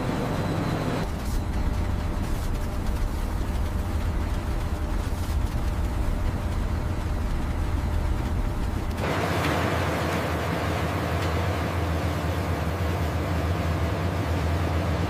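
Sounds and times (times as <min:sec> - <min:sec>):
heavy industrial machinery rumbling: 0:00.0 - 0:15.0.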